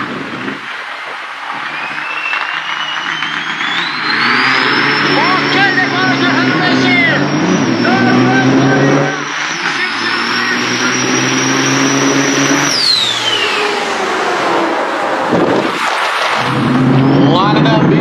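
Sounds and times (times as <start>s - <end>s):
truck engines roaring: 0.0s - 18.0s
turbo whine: 0.0s - 18.0s.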